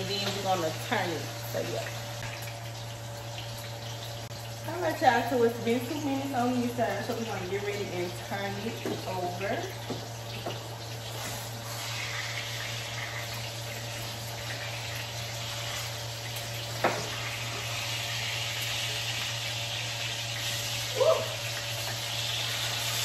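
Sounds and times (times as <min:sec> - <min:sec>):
steak sizzling in a frying pan: 0:00.0 - 0:23.0.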